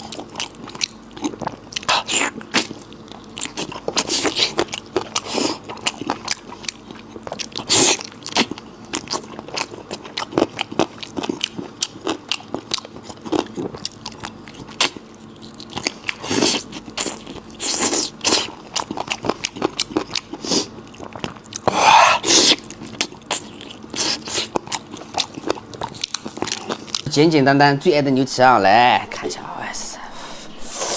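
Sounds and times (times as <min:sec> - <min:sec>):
person chewing close up: 0:00.0 - 0:27.1.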